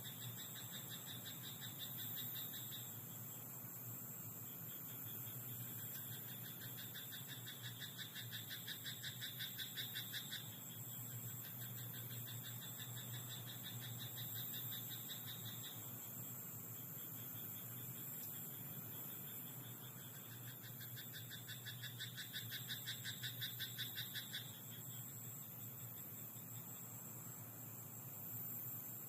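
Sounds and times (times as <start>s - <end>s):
frogs croaking: 0.0s - 29.0s
steady high hiss: 0.0s - 29.0s.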